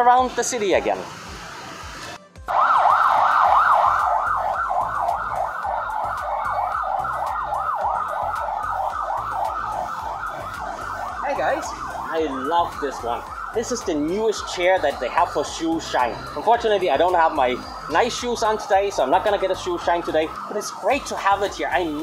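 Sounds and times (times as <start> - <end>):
siren yelping: 2.5 - 22.0.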